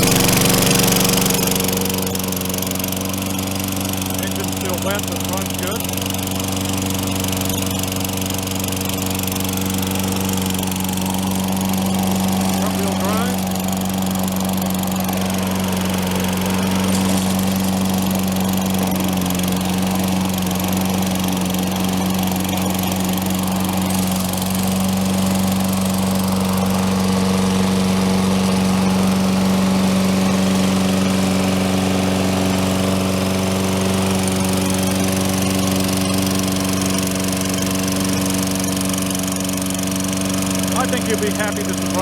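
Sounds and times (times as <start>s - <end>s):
lawn mower engine running: 0.0s - 42.0s.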